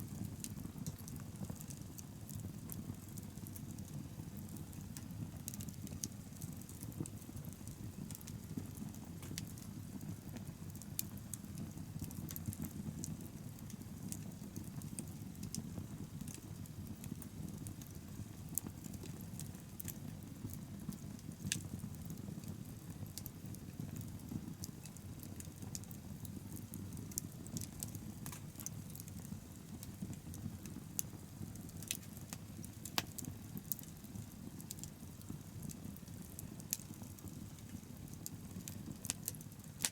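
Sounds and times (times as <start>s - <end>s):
burning wood crackling and popping: 0.0s - 39.9s.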